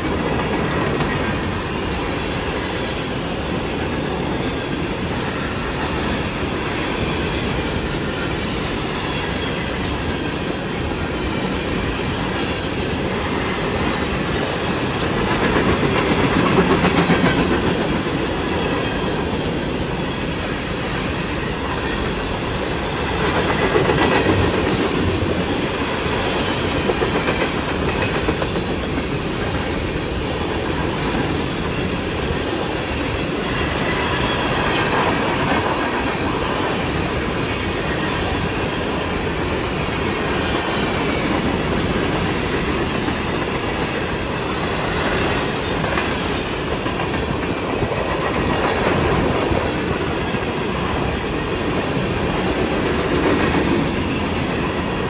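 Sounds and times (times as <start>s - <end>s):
freight train rumbling past: 0.0s - 55.0s
wheels clacking over rail joints: 6.8s - 55.0s.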